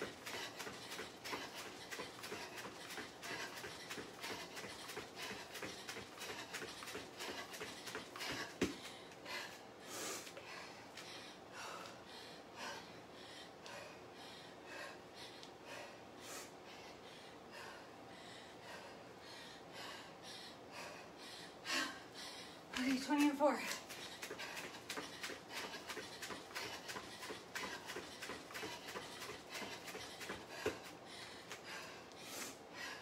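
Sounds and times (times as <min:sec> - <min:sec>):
person breathing hard: 0:00.0 - 0:22.7, 0:23.7 - 0:33.0.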